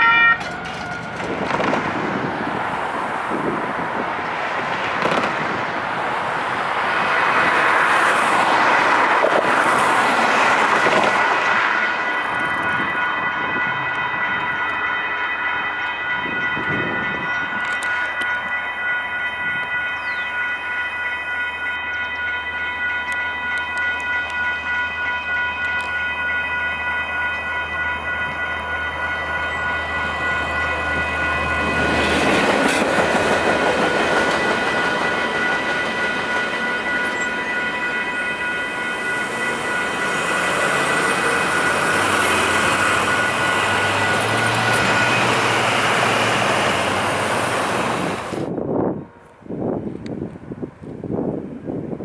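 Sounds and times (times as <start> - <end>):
crossing signal bell ringing: 0.0 - 49.8
train rumble and rail clatter: 0.0 - 52.0.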